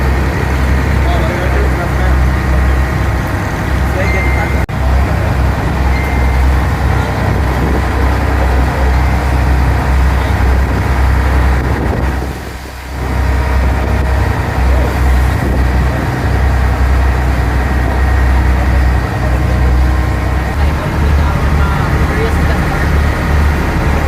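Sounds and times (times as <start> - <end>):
ferry engine droning: 0.0 - 24.0.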